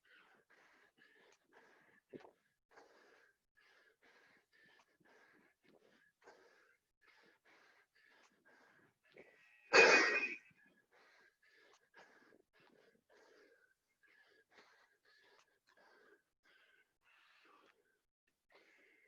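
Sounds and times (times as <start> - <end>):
person breathing: 0.0 - 19.0.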